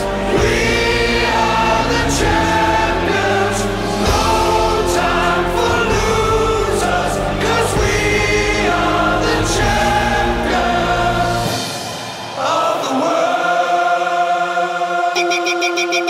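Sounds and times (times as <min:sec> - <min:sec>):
choir singing long held notes: 0:00.0 - 0:16.0.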